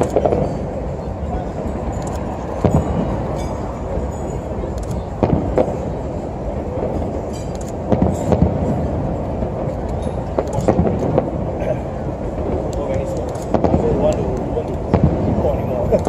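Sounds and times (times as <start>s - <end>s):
background noise: 0.0s - 16.0s
firework bangs: 0.0s - 16.0s.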